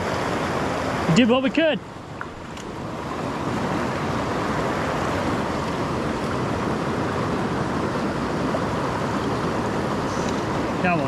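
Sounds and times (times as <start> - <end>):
rushing creek water: 0.0 - 11.0.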